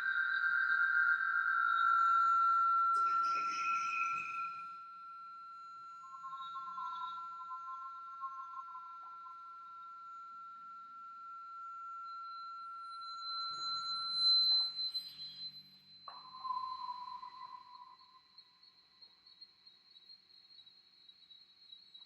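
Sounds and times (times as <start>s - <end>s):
lower wavering tone: 0.0s - 18.4s.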